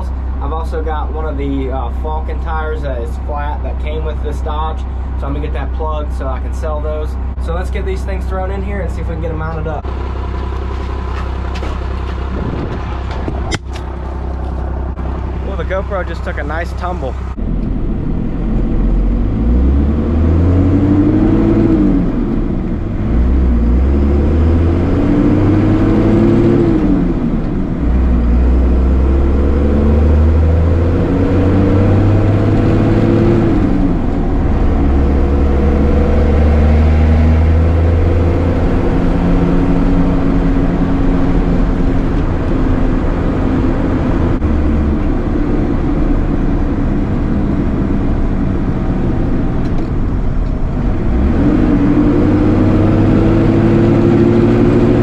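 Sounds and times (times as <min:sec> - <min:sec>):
diesel engine accelerating: 0:00.0 - 0:55.0.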